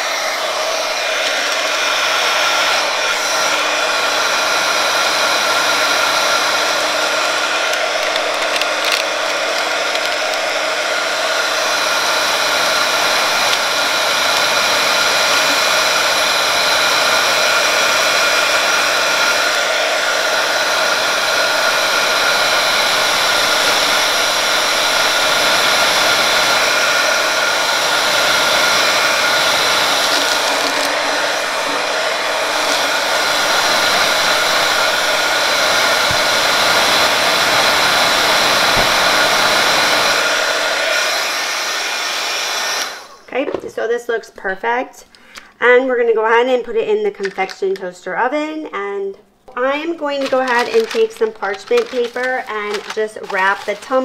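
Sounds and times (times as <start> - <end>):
heat gun blowing air: 0.0 - 43.3, 50.0 - 54.0.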